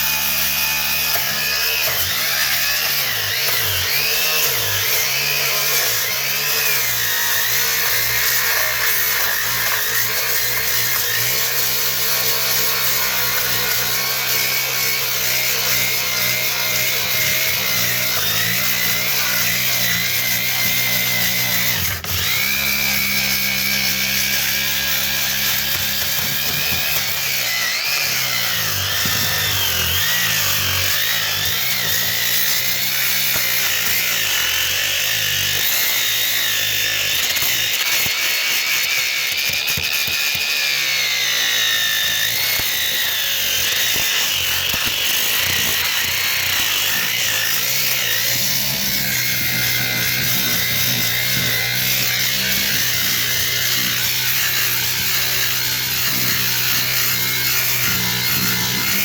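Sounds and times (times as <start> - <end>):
power grinder whining on fibreglass: 0.0 - 59.0.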